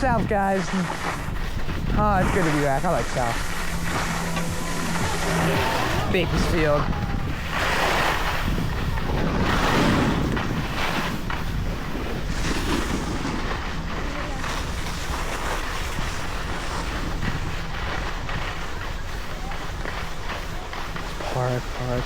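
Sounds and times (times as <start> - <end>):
skis sliding over snow: 0.0 - 22.0
wind rushing over microphone: 0.0 - 22.0.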